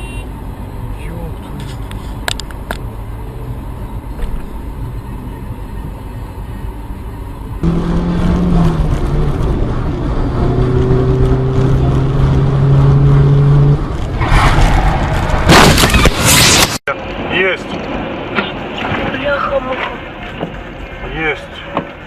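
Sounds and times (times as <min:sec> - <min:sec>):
car engine drone: 0:00.0 - 0:22.0
road noise: 0:00.0 - 0:22.0.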